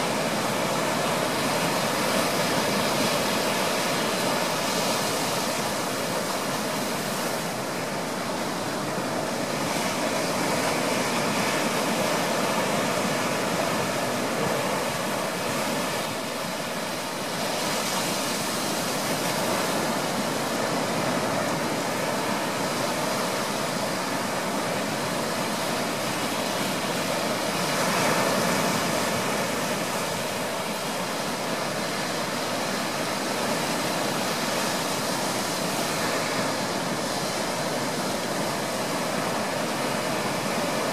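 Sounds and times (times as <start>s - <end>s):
surf breaking on beach: 0.0s - 40.9s.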